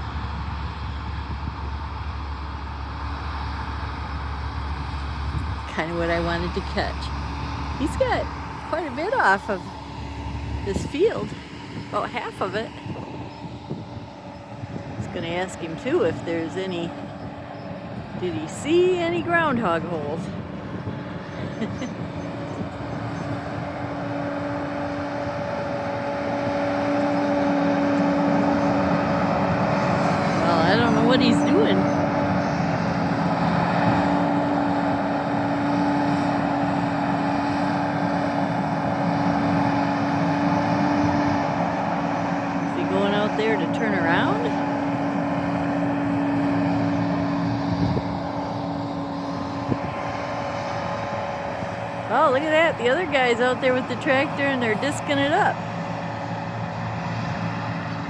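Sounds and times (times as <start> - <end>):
combine harvester running: 0.0 - 58.0
farm machinery engine droning: 0.0 - 58.0
pitched hum: 0.0 - 58.0
steady whine: 0.0 - 58.0.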